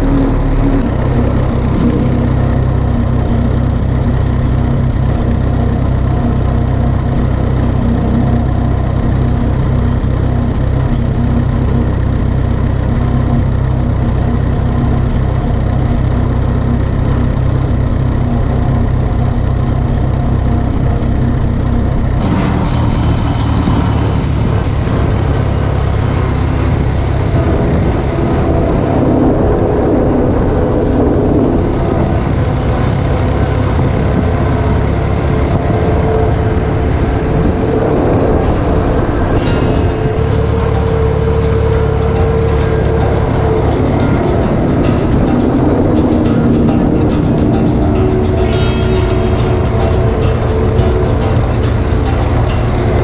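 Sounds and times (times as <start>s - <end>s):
tractor engine droning: 0.0s - 53.0s.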